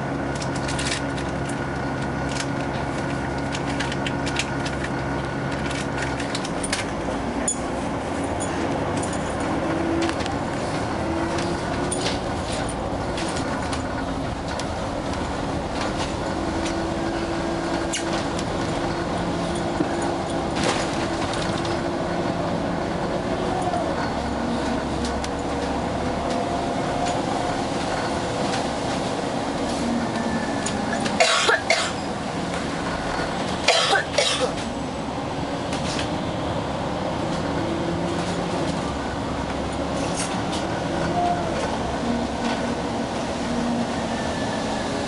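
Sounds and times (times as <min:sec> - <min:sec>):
bus engine and road noise: 0:00.0 - 0:45.0.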